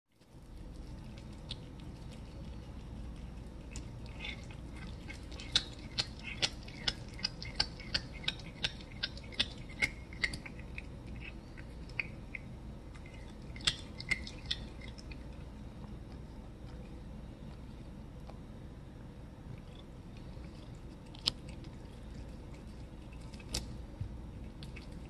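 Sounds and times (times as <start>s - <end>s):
cat crunching on bone: 0.2s - 18.4s, 19.5s - 25.0s.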